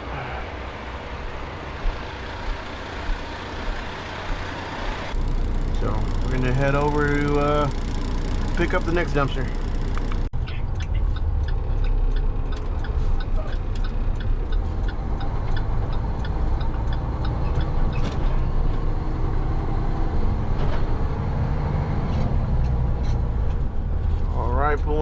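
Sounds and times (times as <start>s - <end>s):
vehicle road rumble: 0.0s - 25.0s.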